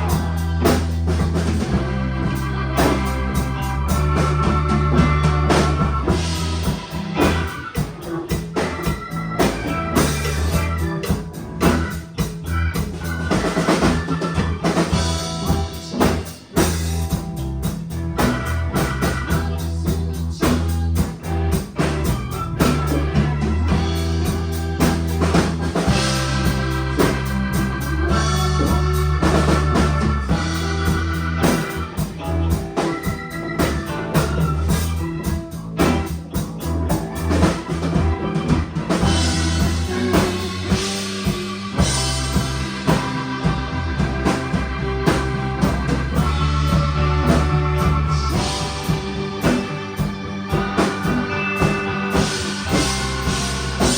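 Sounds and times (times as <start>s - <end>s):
band playing a song: 0.0s - 53.9s
bass line: 0.0s - 53.9s
drum kit beat: 0.0s - 53.9s.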